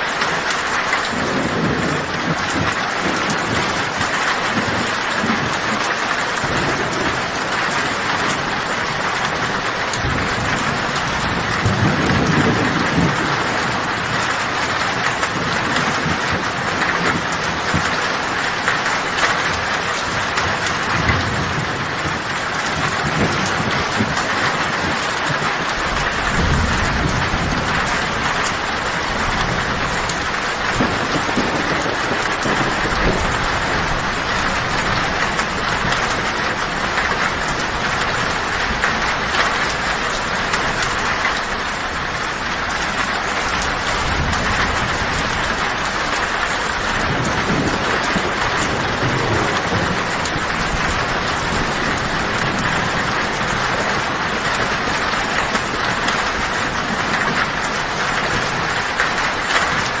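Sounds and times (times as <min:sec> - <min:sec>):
heavy rain on a tin roof: 0:00.0 - 1:00.0
low thunder rumbling: 0:00.2 - 1:00.0.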